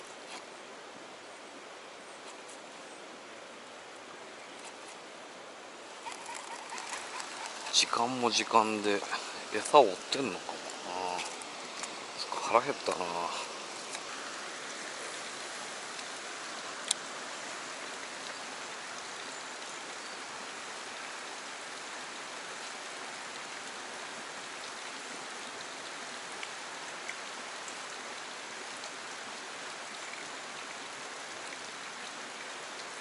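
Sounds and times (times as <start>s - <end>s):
running water hiss: 0.0s - 33.0s.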